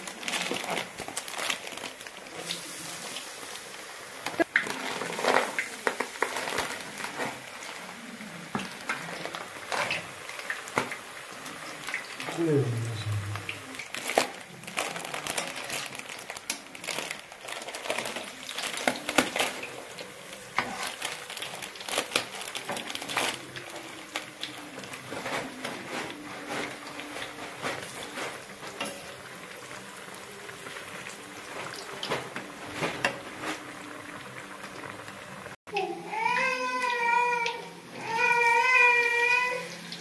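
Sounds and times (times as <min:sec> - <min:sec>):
oil sizzling and crackling: 0:00.0 - 0:40.0.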